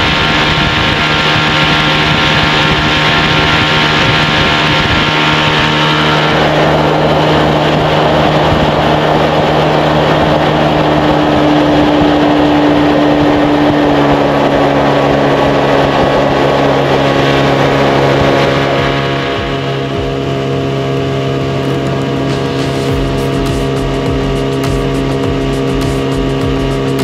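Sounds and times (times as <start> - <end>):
rush of water: 0.0 - 24.6
outboard engine running: 0.0 - 27.0.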